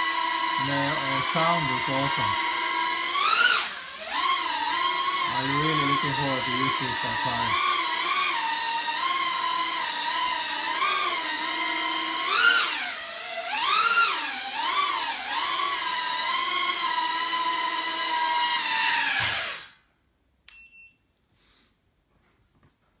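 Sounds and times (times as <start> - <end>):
quadcopter motors whining: 0.0 - 19.8.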